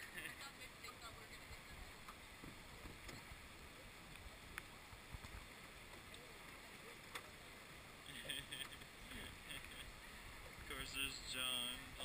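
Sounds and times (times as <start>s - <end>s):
canoe paddling: 0.0s - 12.0s
river noise: 0.0s - 12.0s.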